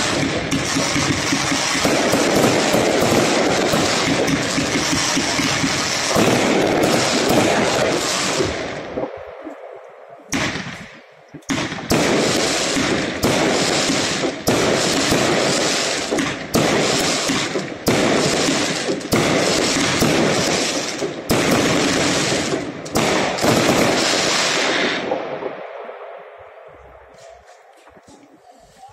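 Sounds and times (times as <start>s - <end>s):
fireworks bangs: 0.0s - 28.9s.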